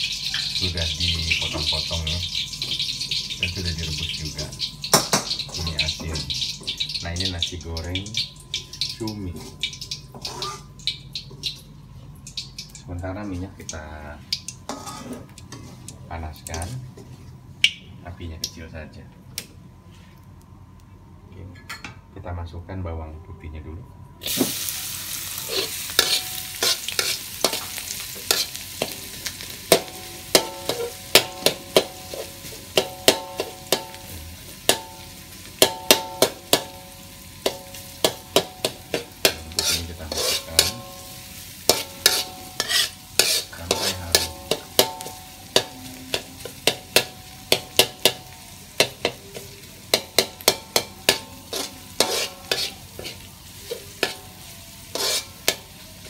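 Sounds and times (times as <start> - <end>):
garlic sizzling in hot oil: 0.0 - 15.9, 24.2 - 56.0.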